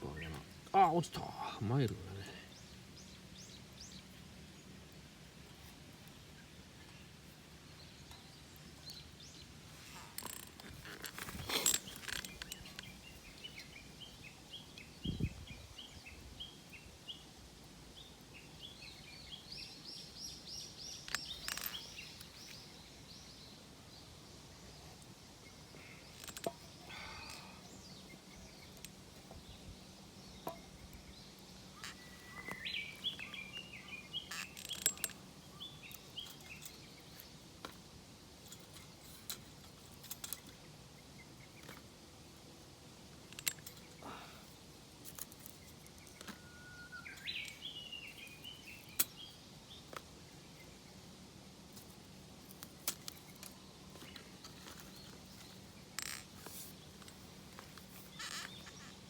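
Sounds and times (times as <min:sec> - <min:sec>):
small bird singing: 0:00.0 - 0:37.8, 0:45.4 - 0:59.0
outdoor background noise: 0:00.0 - 0:59.0.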